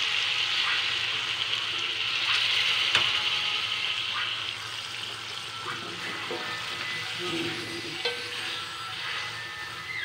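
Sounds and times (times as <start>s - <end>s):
wok sizzling: 0.0s - 10.0s.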